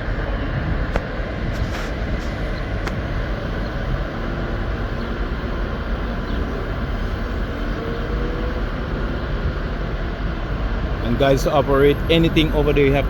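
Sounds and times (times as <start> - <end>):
machinery rumbling: 0.0 - 13.0.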